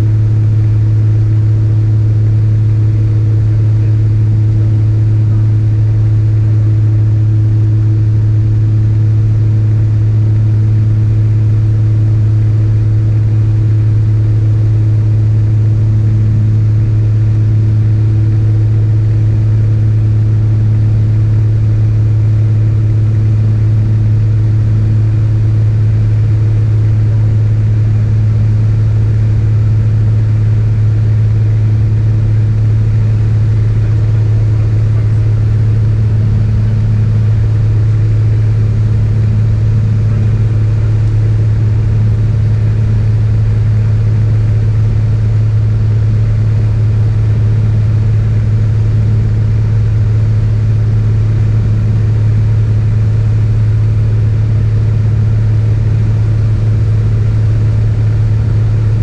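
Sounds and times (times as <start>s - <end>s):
light aircraft engine drone: 0.0s - 59.0s.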